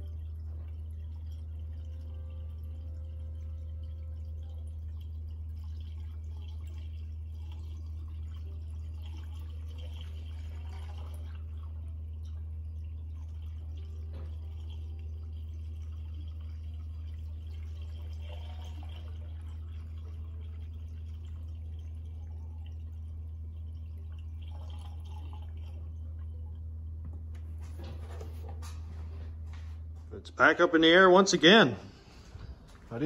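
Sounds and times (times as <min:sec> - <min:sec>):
liquid pouring and dripping: 0:00.0 - 0:33.0
steady low hum: 0:00.0 - 0:33.0.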